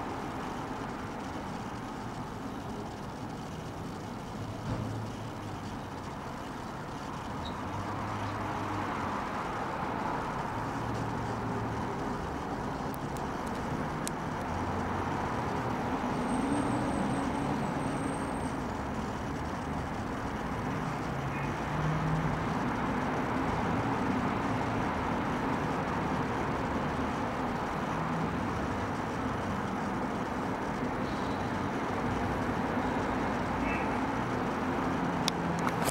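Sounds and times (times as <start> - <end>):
road traffic hum: 0.0 - 35.9.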